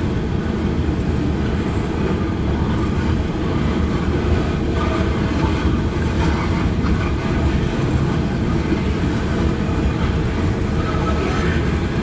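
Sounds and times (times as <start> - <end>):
steel wheels rolling on rail: 0.0 - 12.0.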